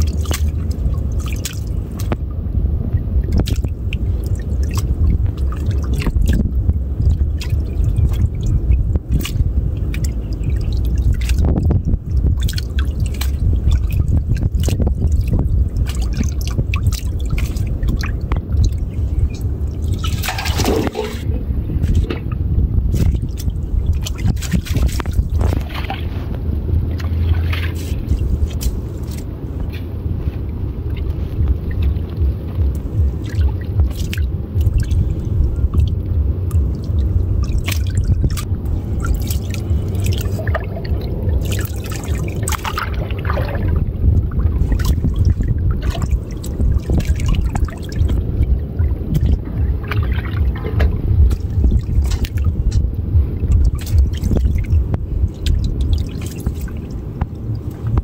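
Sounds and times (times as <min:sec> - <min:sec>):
low rumble: 0:00.0 - 0:58.0
water splashing and dripping: 0:00.0 - 0:58.0.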